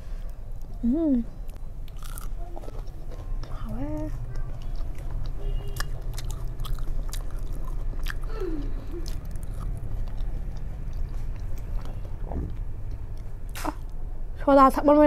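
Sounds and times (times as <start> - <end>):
crunchy chewing of fried food: 1.4 - 14.0.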